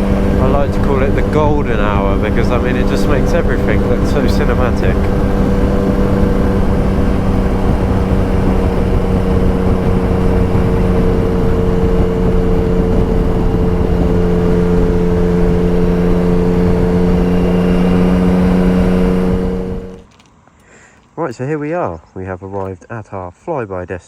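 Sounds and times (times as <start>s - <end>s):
motorcycle engine exhaust note: 0.0s - 20.1s.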